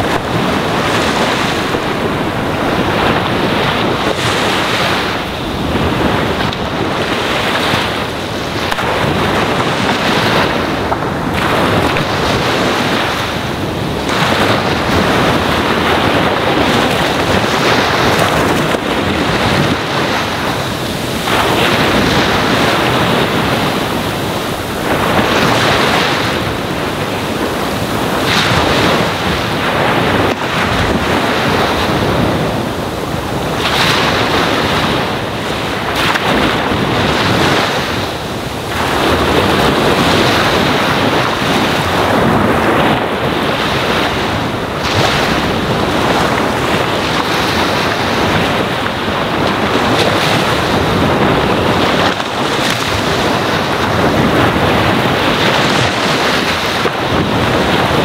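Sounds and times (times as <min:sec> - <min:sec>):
ocean waves on shore: 0:00.0 - 0:58.0.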